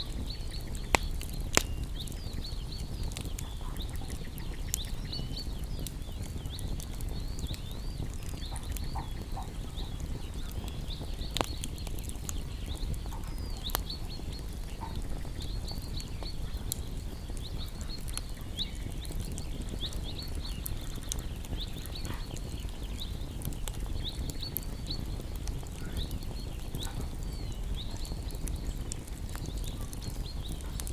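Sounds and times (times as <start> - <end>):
fire popping: 0.0 - 30.9
songbirds chirping: 0.0 - 30.9
wood fire crackling: 0.0 - 30.9.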